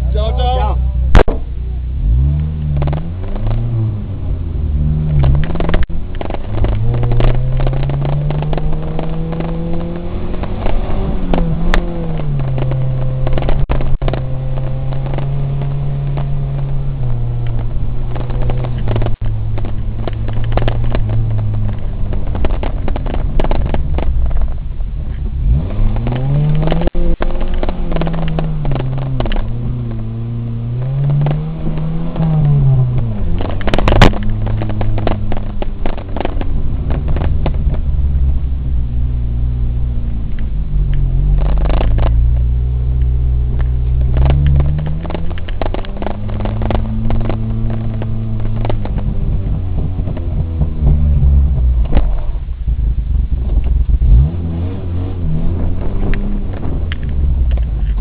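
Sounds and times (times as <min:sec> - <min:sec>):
off-road vehicle engine revving: 0:00.0 - 0:58.0
vehicle knocks and rattles: 0:05.0 - 0:38.7, 0:40.3 - 0:42.6, 0:43.4 - 0:54.3.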